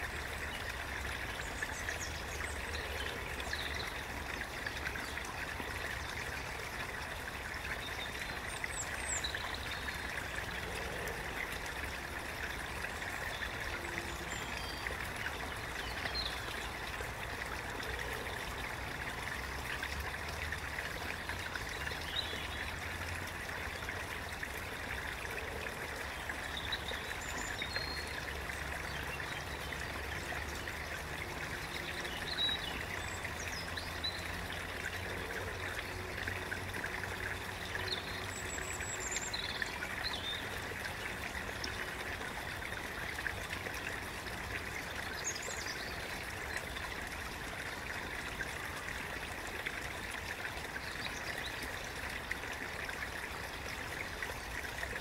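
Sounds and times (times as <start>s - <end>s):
stream trickling: 0.0s - 55.0s.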